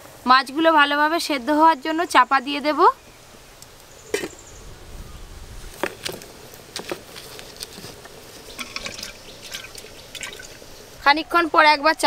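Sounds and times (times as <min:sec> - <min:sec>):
wood fire crackling: 0:01.1 - 0:12.0.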